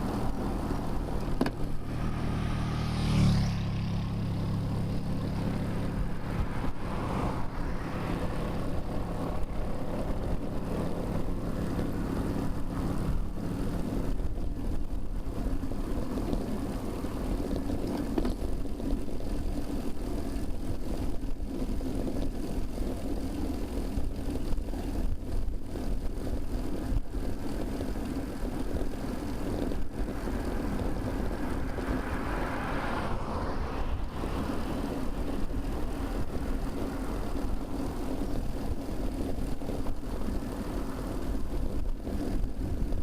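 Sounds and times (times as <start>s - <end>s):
passing vehicles: 0.0s - 43.0s
wind and road rumble: 0.0s - 43.0s.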